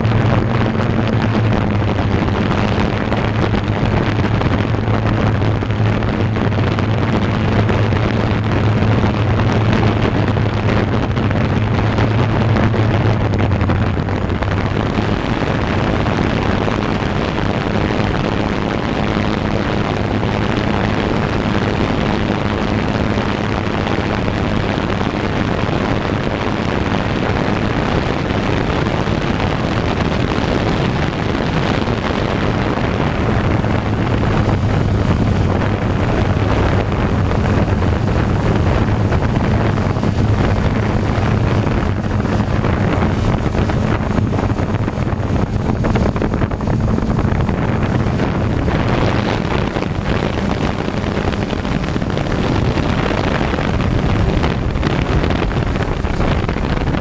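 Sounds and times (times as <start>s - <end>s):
drone propeller hum: 0.0s - 57.0s
wind rushing over microphone: 0.0s - 57.0s.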